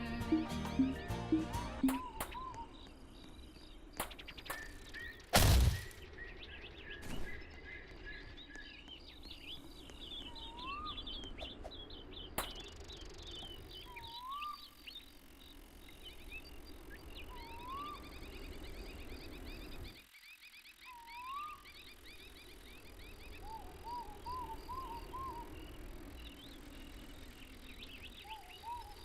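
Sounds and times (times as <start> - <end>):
birds chirping: 0.0 - 29.0
outdoor ambience: 0.0 - 29.0.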